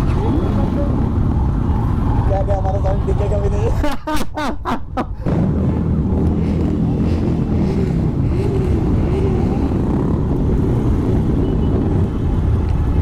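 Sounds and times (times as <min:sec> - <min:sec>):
motorcycles idling and revving: 0:00.0 - 0:03.9, 0:05.2 - 0:13.0.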